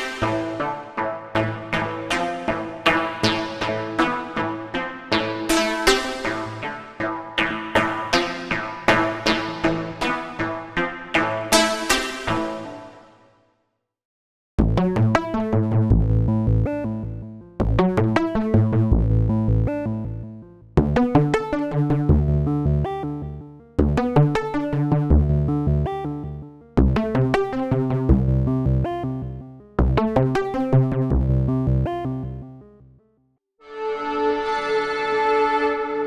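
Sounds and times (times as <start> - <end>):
synthesizer sequenced pattern: 0.0 - 13.0, 14.6 - 32.5.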